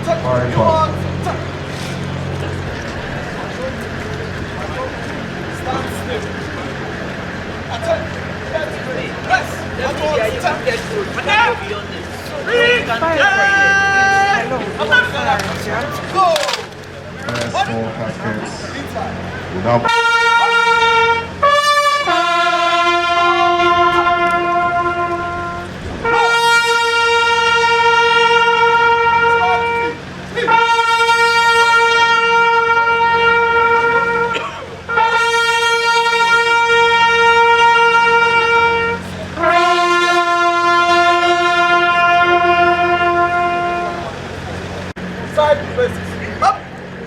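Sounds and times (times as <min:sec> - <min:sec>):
bugle call: 0:00.0 - 0:17.8, 0:19.1 - 0:45.5.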